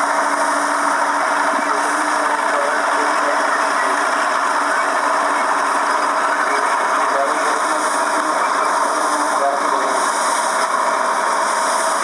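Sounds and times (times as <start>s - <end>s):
mechanical running hum: 0.0s - 12.0s.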